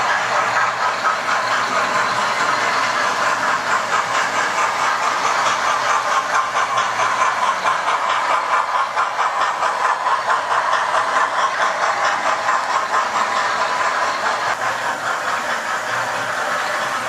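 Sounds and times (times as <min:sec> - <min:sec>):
model train motor whir: 0:00.0 - 0:17.0
wheels clicking over rails: 0:00.0 - 0:17.0.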